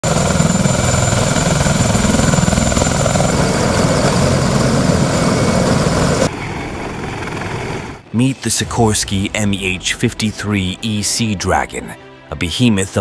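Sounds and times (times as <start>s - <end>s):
helicopter turbine whine: 0.0s - 10.8s
helicopter blades beating: 0.0s - 11.8s.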